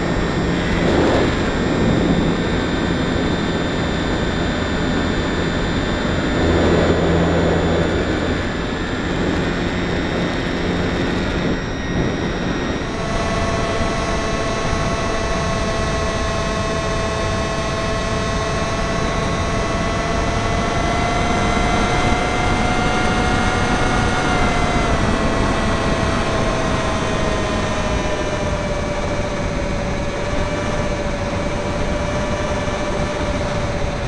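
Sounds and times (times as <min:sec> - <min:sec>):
model plane motor whine: 0:00.0 - 0:34.0
rushing wind noise: 0:00.0 - 0:34.0.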